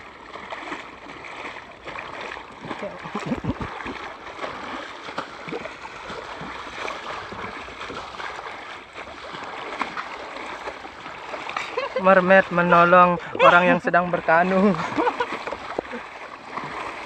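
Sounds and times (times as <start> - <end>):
sea water rushing and splashing: 0.0 - 17.0.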